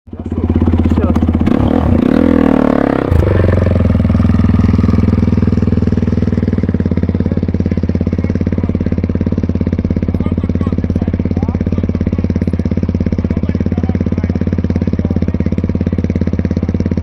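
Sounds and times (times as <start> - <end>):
quad bike engine revving: 0.1 - 17.0.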